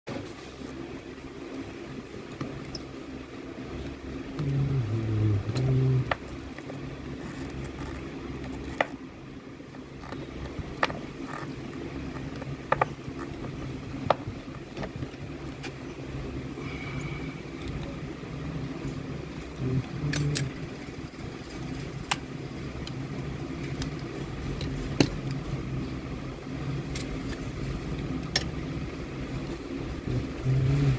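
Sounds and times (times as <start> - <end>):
electric fan whirring: 0.1 - 30.9.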